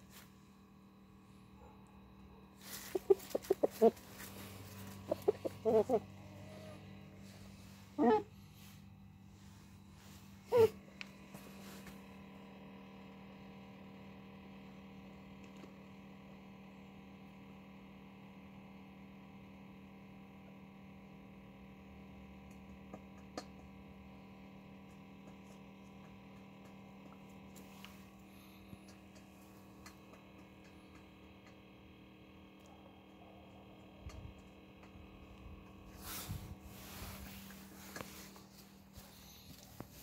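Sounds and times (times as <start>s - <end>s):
steady low hum with even tones: 0.0s - 40.0s.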